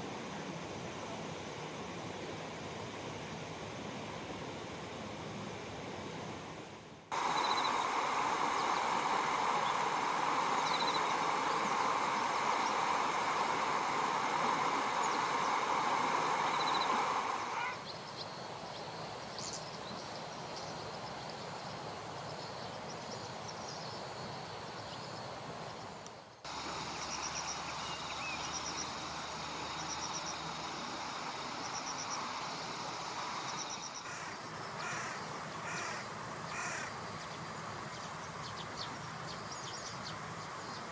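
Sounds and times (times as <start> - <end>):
insects droning: 0.0 - 40.9
insect chirps: 7.1 - 40.9.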